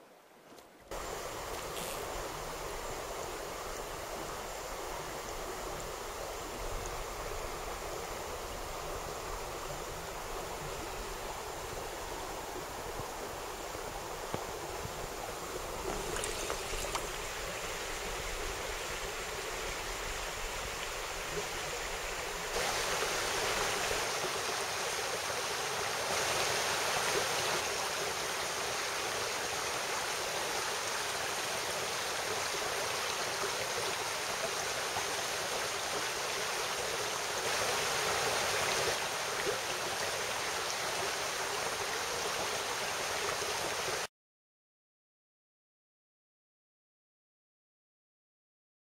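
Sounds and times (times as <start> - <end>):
stream water rushing over rocks: 0.9 - 44.1.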